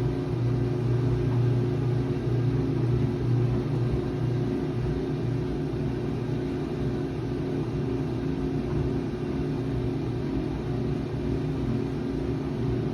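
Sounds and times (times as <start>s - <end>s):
washing machine motor hum: 0.0s - 12.9s.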